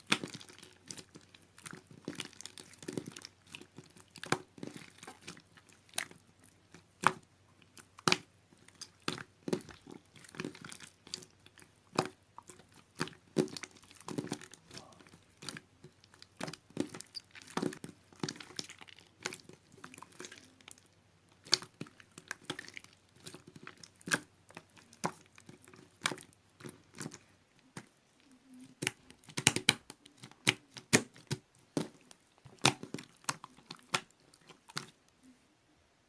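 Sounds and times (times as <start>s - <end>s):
crinkling and crackling: 0.0s - 35.4s.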